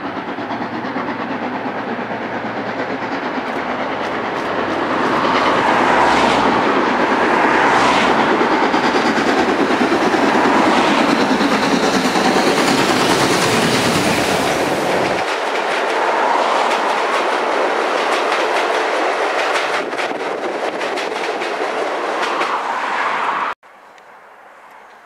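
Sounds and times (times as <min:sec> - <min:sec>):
train wheels clicking over rail joints: 0:00.0 - 0:22.8
steam locomotive running: 0:00.0 - 0:23.6.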